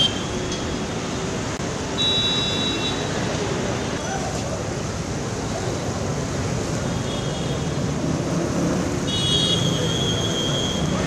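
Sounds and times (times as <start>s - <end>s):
floodwater rushing along a drain: 0.0s - 11.0s.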